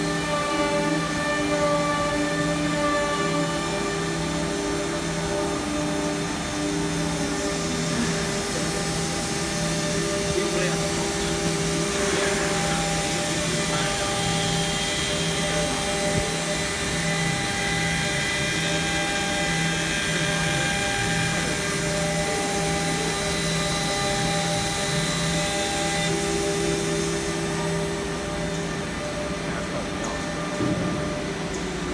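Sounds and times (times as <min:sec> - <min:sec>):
cnc spindle whine: 0:00.0 - 0:31.9
low motor hum: 0:00.0 - 0:31.9.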